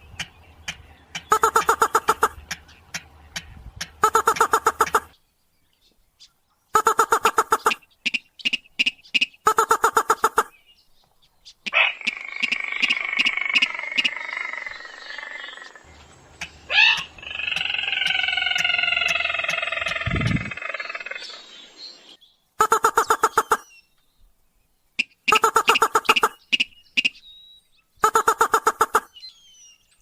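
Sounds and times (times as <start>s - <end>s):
rail and crake bird calls: 0.0s - 24.1s, 24.8s - 30.0s.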